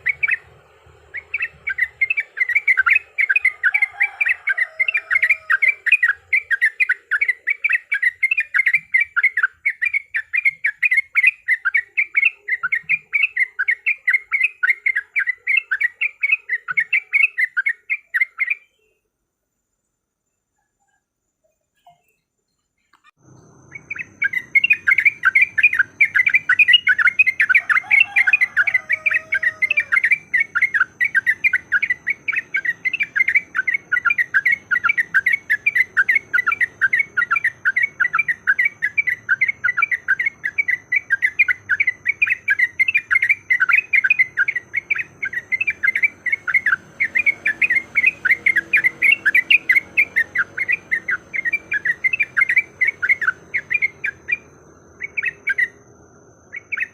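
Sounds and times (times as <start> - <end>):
bulbul chattering: 0.0 - 19.0, 22.8 - 56.9.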